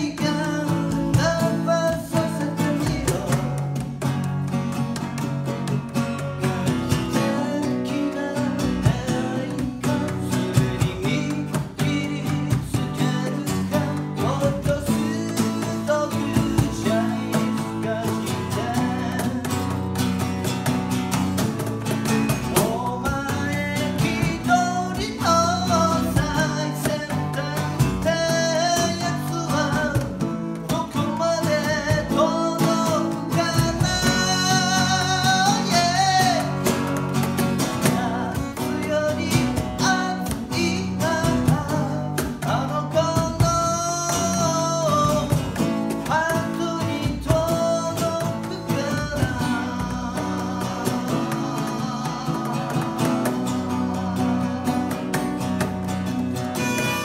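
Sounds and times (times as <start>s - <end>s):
cajon beat: 0.0s - 57.0s
man singing: 0.0s - 57.0s
strummed acoustic guitar: 0.0s - 57.0s.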